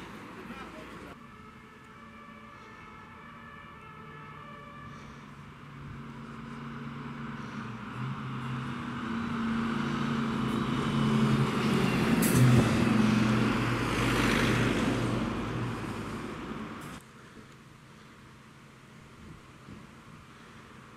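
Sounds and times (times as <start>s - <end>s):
fire engine driving past: 0.0s - 20.9s.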